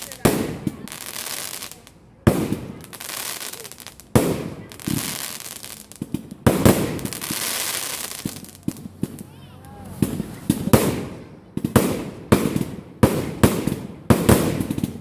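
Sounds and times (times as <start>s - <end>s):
fireworks bangs with hiss: 0.0s - 15.0s
small firework pops: 0.0s - 15.0s.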